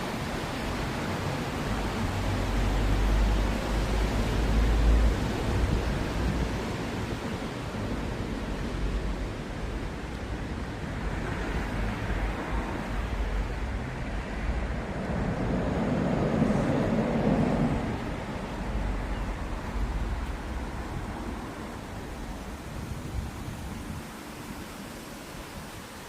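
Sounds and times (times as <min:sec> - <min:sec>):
rushing outdoor noise: 0:00.0 - 0:26.0.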